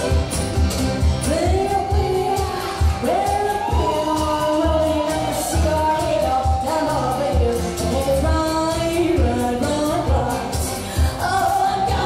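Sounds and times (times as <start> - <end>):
country band playing: 0.0 - 12.0
keyboard: 0.0 - 12.0
woman singing: 1.2 - 12.0.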